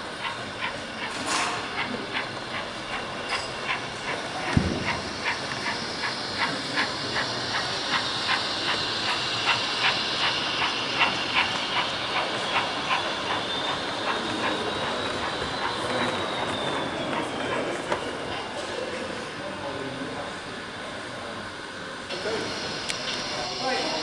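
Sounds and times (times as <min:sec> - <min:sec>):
model steam train chuffing: 0:00.0 - 0:24.0.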